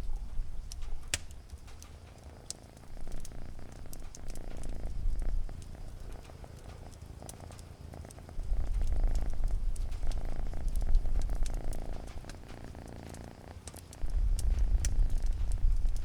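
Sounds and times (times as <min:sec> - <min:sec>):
cat purring: 0:00.0 - 0:16.0
fire crackling: 0:00.0 - 0:16.0.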